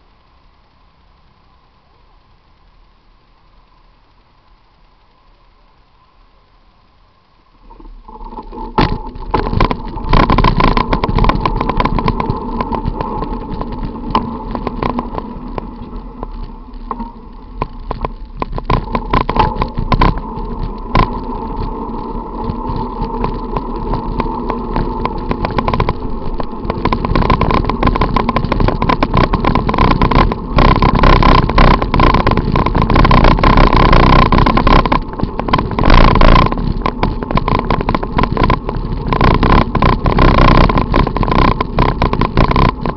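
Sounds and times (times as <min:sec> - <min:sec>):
bicycle road and wind noise: 0:00.0 - 0:42.9
bicycle knocks and rattles: 0:07.7 - 0:42.9.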